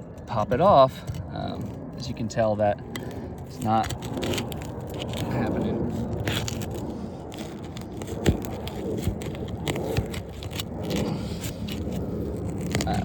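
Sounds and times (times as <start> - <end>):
shingles scraping and crackling: 0.0 - 13.0.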